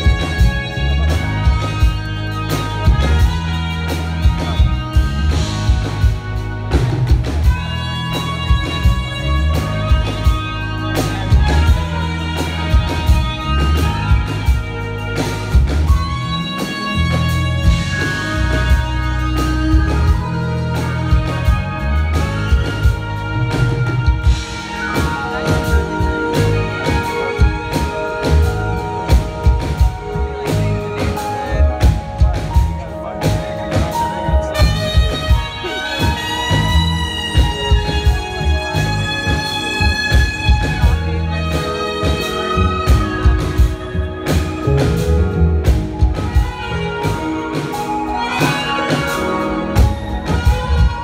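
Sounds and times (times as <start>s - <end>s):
jazz band playing: 0.0s - 51.0s
trumpet long held notes: 0.0s - 51.0s.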